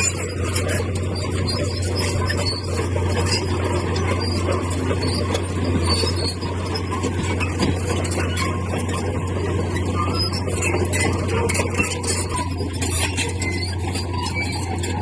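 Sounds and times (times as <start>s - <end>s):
bulldozer engine droning: 0.0s - 15.0s
squeaking and scraping: 0.0s - 15.0s.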